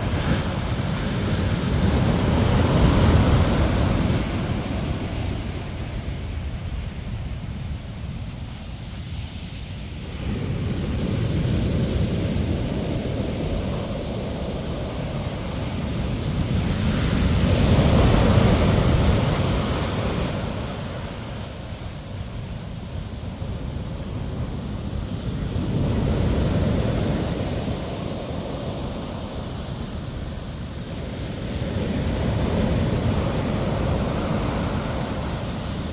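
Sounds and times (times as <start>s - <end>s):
ocean surf breaking on beach: 0.0s - 35.9s.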